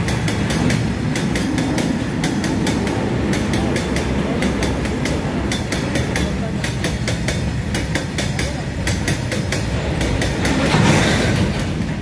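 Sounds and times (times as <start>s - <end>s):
freight train wagons rumbling: 0.0s - 12.0s
wheels clicking over rail joints: 0.0s - 12.0s.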